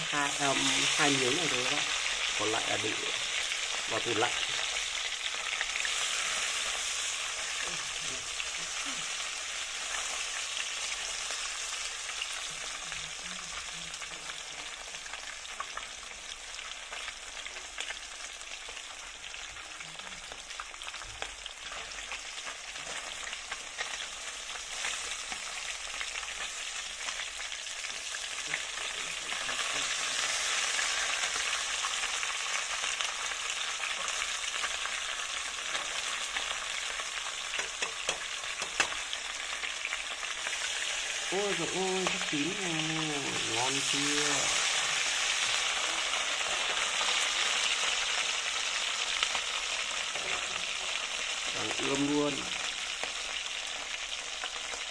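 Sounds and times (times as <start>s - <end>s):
fish frying in hot oil: 0.0s - 54.9s.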